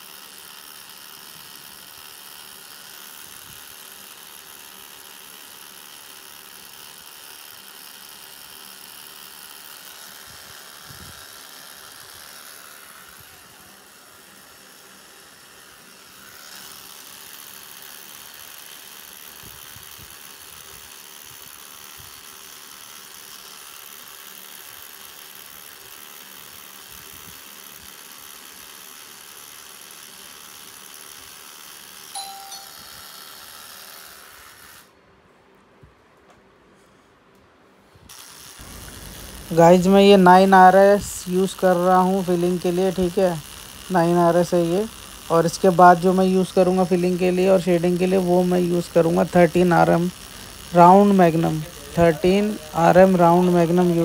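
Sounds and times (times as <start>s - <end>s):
tattoo machine whirring: 0.0s - 35.0s, 38.1s - 54.0s.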